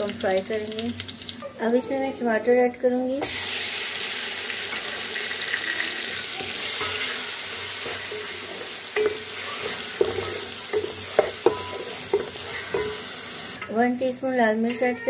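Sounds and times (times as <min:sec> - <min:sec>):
tomatoes sizzling in oil: 0:00.0 - 0:01.5, 0:03.0 - 0:14.6.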